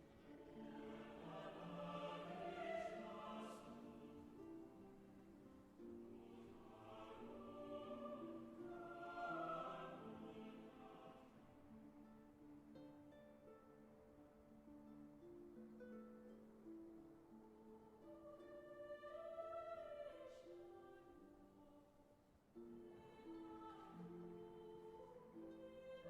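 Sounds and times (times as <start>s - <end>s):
soft film score with choir: 0.0s - 26.0s.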